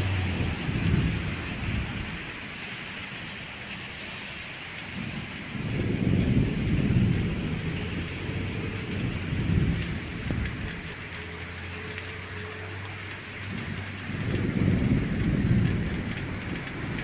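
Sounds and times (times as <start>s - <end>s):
distant thunder rumbles: 0.0s - 17.0s
rain hissing: 0.0s - 17.0s.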